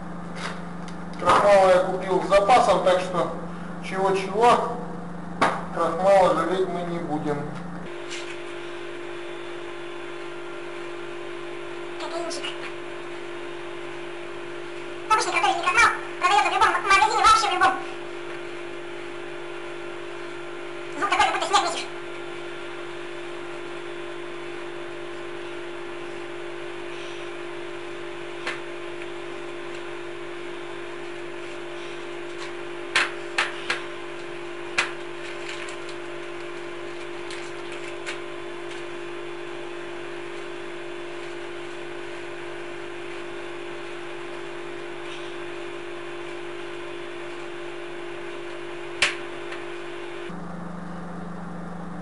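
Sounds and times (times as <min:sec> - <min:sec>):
steady hum: 0:00.0 - 0:52.0.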